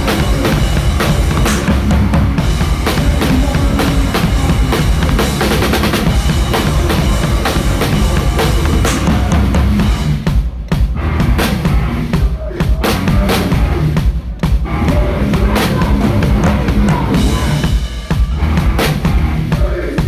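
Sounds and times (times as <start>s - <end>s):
hardcore band playing live: 0.0s - 19.8s
kick drum and cymbal hits: 0.0s - 20.0s.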